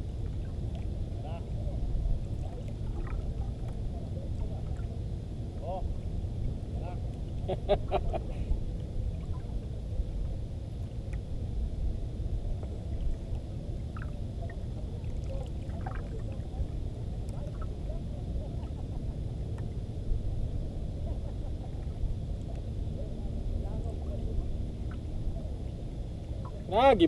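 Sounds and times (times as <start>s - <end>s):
sea noise: 0.0s - 27.0s.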